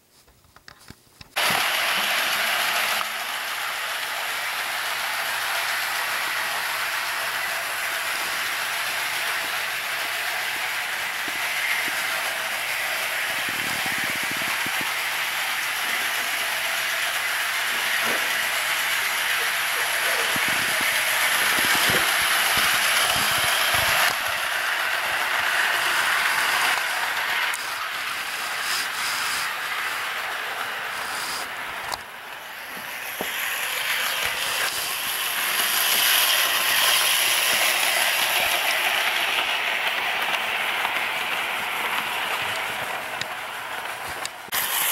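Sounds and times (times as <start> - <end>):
model train whirring on rails: 1.4 - 44.9.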